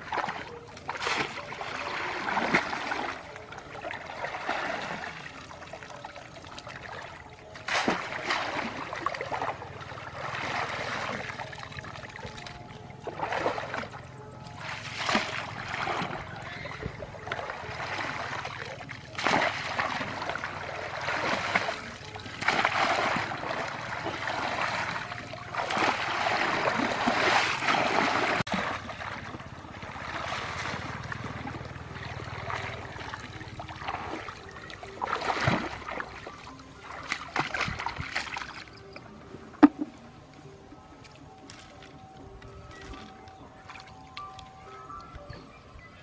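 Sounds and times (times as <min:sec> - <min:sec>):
muddy water splashing: 0:00.0 - 0:45.3.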